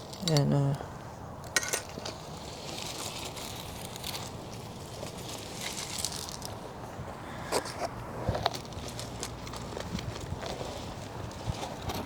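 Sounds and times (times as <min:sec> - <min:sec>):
outdoor background noise: 0:00.0 - 0:12.0
soil rustling and scraping: 0:01.5 - 0:12.0.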